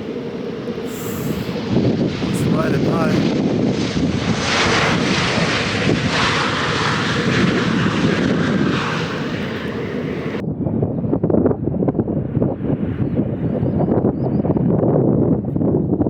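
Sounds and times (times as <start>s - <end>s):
airliner engines passing: 0.0s - 16.0s
gusty wind on microphone: 0.0s - 16.0s.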